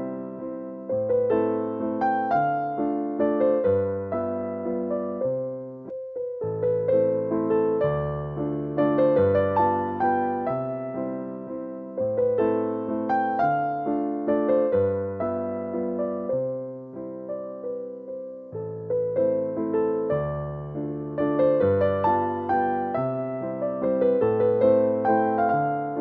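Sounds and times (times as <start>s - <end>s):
slow solo piano waltz: 0.0s - 26.0s.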